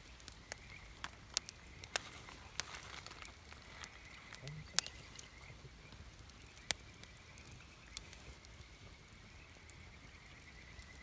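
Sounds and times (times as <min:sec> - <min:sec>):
wood campfire hissing and crackling: 0:00.0 - 0:11.0.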